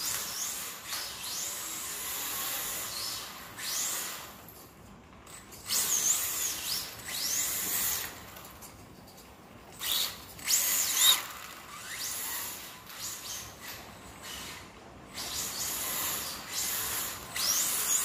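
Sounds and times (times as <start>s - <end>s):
rc car motor whining: 0.0s - 4.7s, 5.4s - 8.8s, 9.7s - 18.0s.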